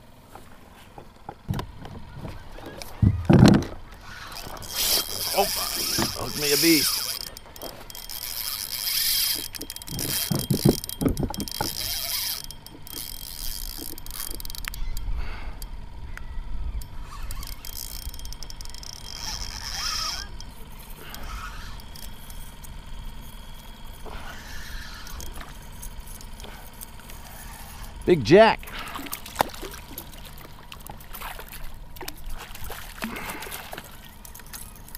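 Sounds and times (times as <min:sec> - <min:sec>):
water lapping: 0:02.0 - 0:14.6, 0:18.8 - 0:34.9
spinning reel whirring: 0:02.3 - 0:34.9.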